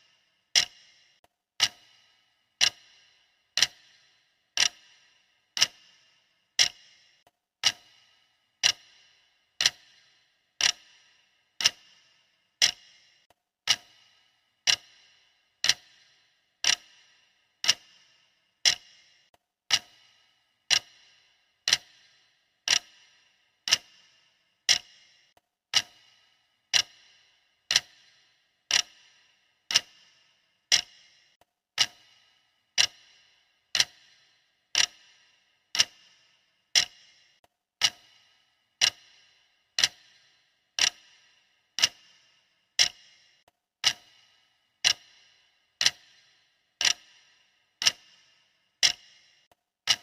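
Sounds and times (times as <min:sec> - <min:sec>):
clock ticking: 0:00.0 - 0:50.0.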